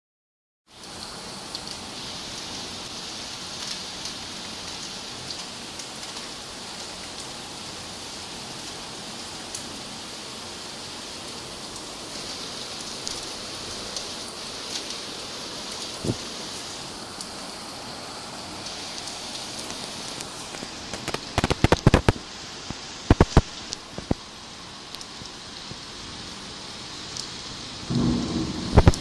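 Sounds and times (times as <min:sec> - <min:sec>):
heavy rain falling: 0:00.7 - 0:29.0
raindrops ticking on surfaces: 0:00.7 - 0:29.0.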